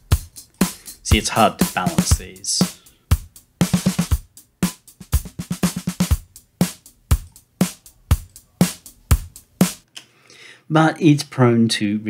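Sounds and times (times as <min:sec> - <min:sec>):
compressed electronic drum loop: 0:00.0 - 0:09.9.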